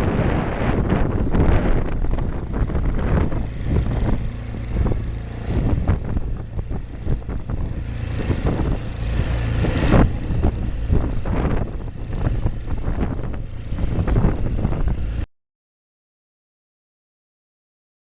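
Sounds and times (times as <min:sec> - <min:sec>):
boat motor drone: 0:00.0 - 0:15.2
wind buffeting microphone: 0:00.0 - 0:15.2.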